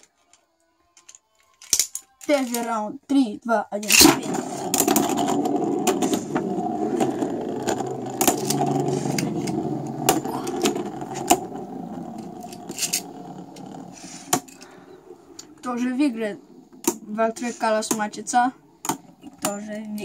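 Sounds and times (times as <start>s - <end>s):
spinning tops whirring and scraping: 3.8s - 20.0s.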